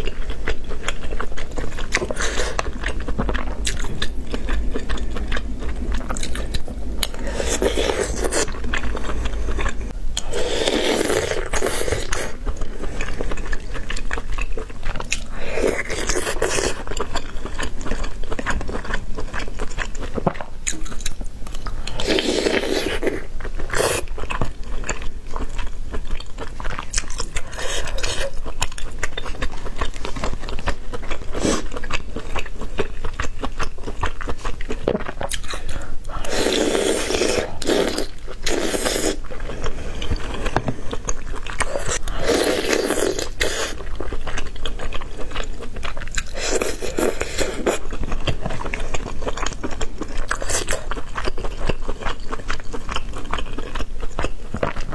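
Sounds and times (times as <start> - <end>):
chewing and biting food: 0.0 - 54.9.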